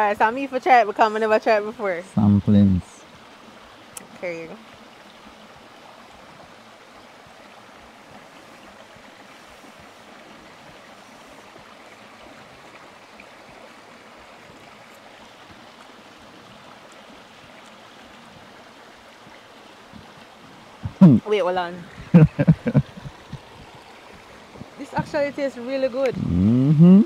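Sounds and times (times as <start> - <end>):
stream flowing over stones: 0.0 - 26.7.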